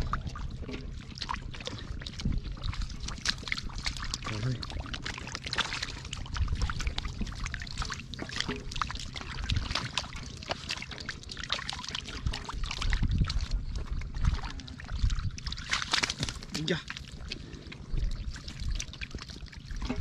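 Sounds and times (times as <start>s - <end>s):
muddy water splashing: 0.0s - 20.0s.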